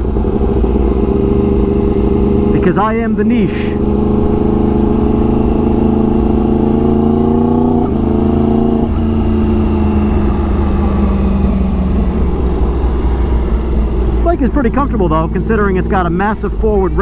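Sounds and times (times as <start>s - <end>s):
motorcycle exhaust at low revs: 0.0s - 17.0s.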